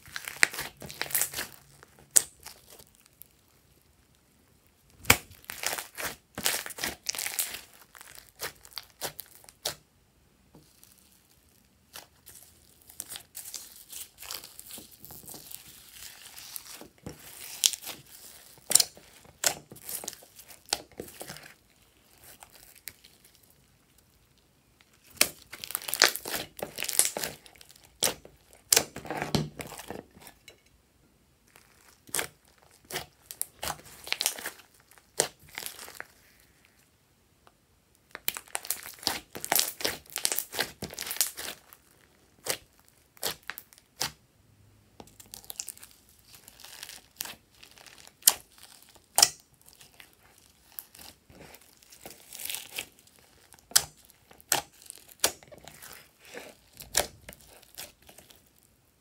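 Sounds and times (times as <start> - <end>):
slime squishing and popping: 0.0 - 3.4, 4.9 - 9.8, 11.9 - 23.3, 24.8 - 30.2, 31.5 - 36.1, 38.0 - 44.2, 45.0 - 58.5.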